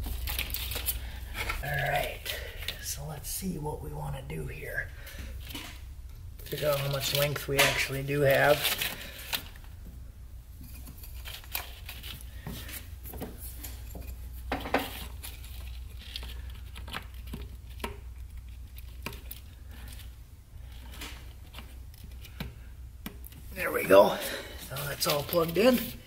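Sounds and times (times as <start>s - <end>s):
wiring harness rustling and clicking: 0.0s - 2.9s, 6.4s - 9.8s, 10.6s - 26.0s
steady low hum: 0.0s - 26.0s.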